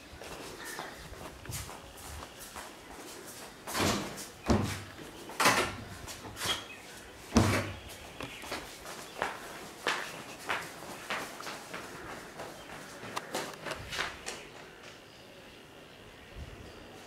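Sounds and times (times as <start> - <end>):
footsteps on tiled floor: 0.0 - 15.1.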